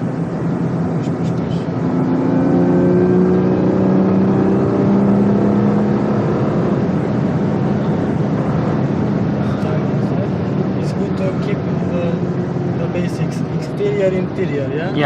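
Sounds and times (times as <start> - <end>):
car engine under load: 0.0 - 14.7.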